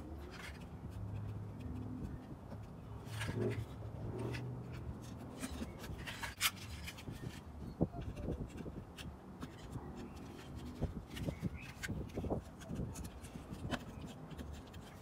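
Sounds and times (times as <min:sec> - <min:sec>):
fingers rubbing on plastic: 0:00.0 - 0:15.0.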